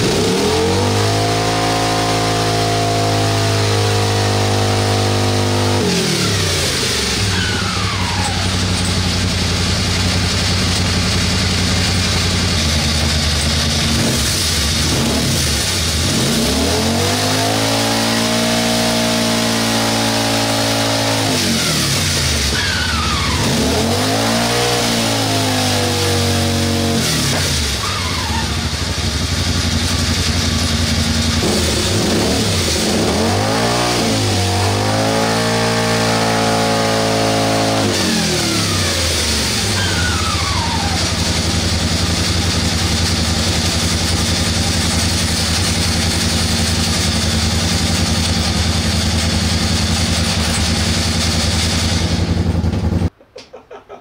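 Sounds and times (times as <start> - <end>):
engine revving: 0.0 - 53.1.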